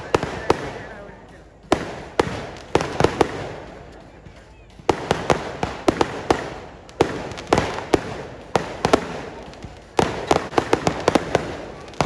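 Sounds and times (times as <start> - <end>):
fireworks banging with echo: 0.0 - 12.0.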